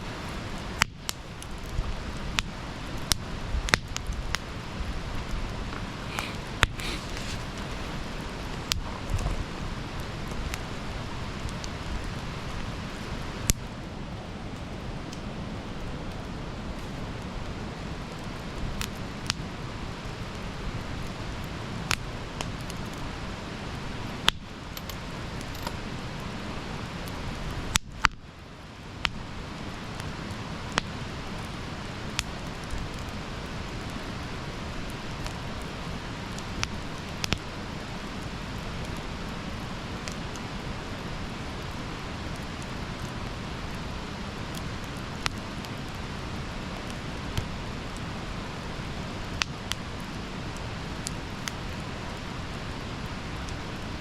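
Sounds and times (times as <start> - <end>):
campfire hissing and rumbling: 0.0 - 54.0
fire crackling and popping: 0.0 - 54.0.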